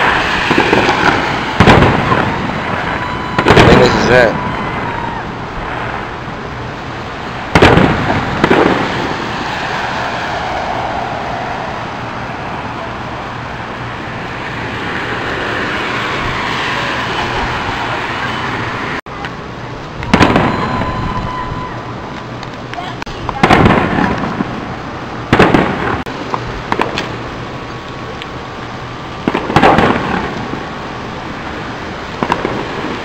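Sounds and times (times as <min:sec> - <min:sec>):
fireworks bangs: 0:00.0 - 0:19.0, 0:19.7 - 0:27.7, 0:29.1 - 0:33.0
steady rushing noise: 0:00.0 - 0:33.0.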